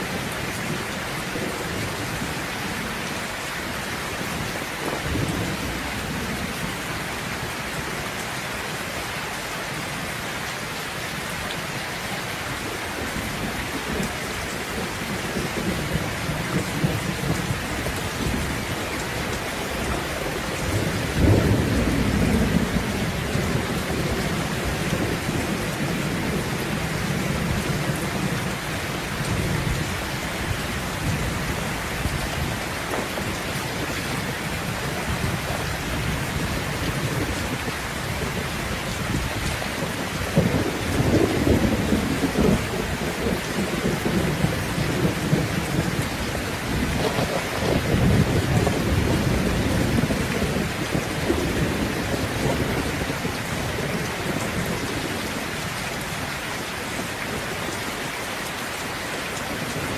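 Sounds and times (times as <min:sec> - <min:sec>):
thunder rumbling: 0:00.0 - 0:08.0, 0:13.1 - 0:56.2
heavy rain hissing: 0:00.0 - 0:59.9.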